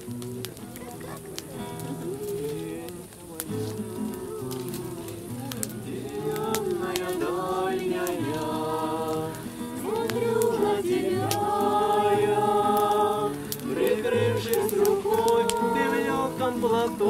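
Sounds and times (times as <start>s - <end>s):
strummed acoustic guitar: 0.0s - 17.0s
group of people singing: 1.9s - 17.0s.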